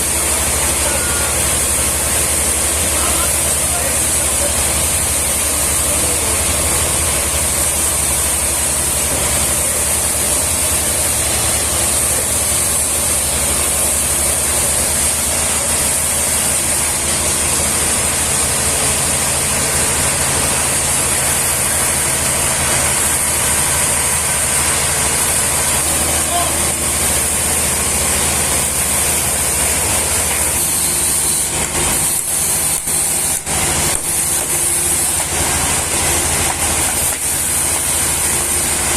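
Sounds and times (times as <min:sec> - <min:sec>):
engine-driven machine running: 0:00.0 - 0:38.9.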